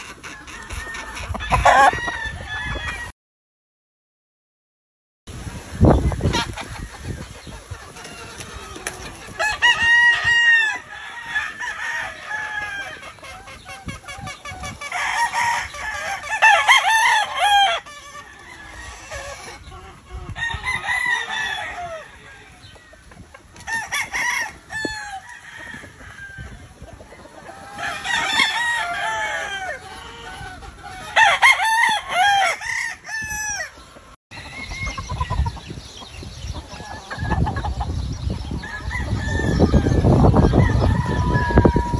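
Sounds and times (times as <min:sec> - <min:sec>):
roosters crowing: 0:00.0 - 0:03.1, 0:05.8 - 0:35.6, 0:36.6 - 0:41.9
soft chicken calls: 0:05.7 - 0:41.9.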